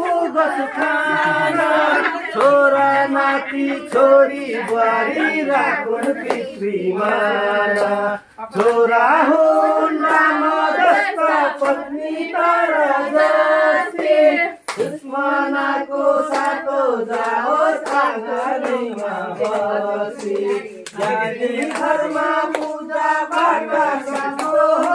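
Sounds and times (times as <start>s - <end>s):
hand clapping: 0.0s - 11.0s, 11.6s - 11.9s, 13.2s - 24.9s
group singing in chorus: 0.0s - 24.9s.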